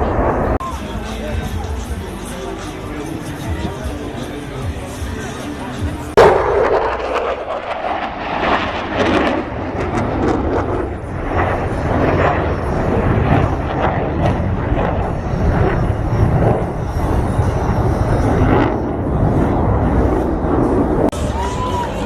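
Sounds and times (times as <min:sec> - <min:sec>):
deep rumble: 0:00.0 - 0:22.0
jet noise flying over: 0:00.0 - 0:22.0.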